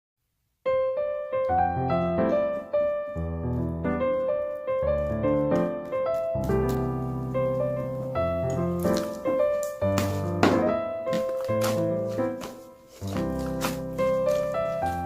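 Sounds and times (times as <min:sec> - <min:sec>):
piano music: 0:00.6 - 0:15.0.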